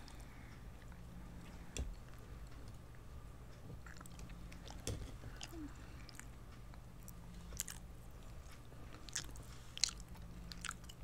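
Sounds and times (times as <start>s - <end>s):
soft chewing: 0.0s - 11.0s.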